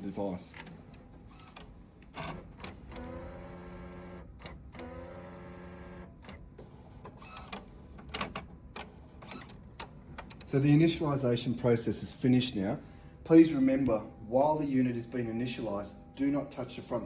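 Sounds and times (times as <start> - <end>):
printer motor whine: 0.6 - 17.0.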